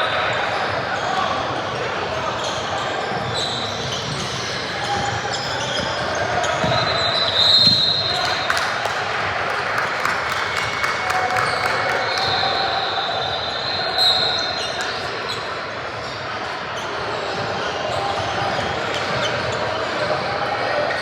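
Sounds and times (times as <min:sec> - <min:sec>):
crowd and player voices: 0:00.0 - 0:21.0.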